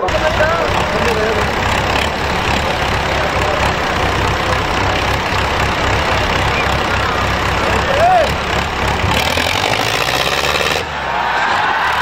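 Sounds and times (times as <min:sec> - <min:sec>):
tractor diesel engines idling: 0:00.0 - 0:12.0.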